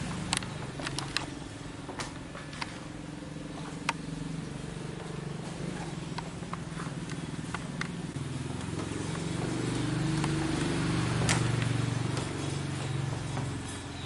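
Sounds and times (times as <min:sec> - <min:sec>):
low steady engine hum: 0:00.0 - 0:14.0.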